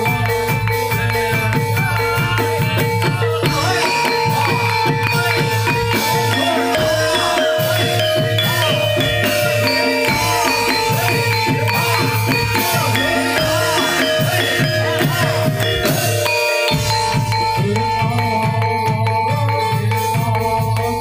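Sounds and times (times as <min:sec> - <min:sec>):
hand drums: 0:00.0 - 0:21.0
struck metallophones: 0:00.0 - 0:21.0.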